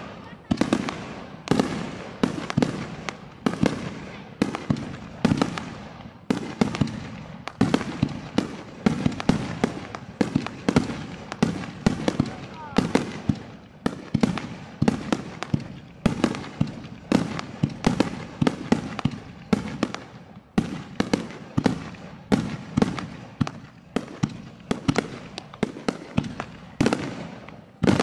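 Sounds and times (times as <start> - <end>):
firework shells bursting overhead: 0.0 - 28.0.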